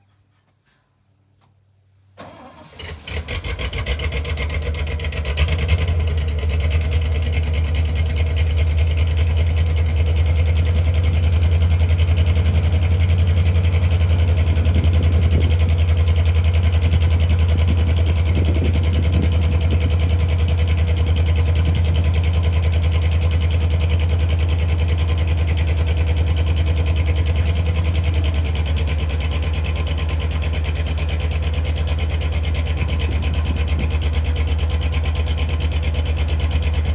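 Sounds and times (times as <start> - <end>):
truck engine starting and idling: 2.2 - 36.9.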